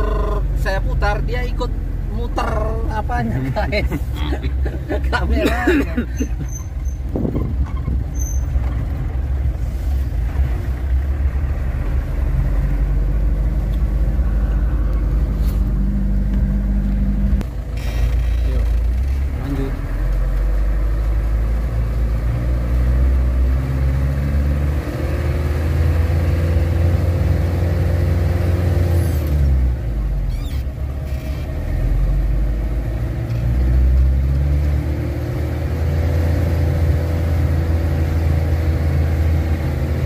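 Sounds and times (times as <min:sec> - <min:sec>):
truck engine revving: 0:00.0 - 0:40.0.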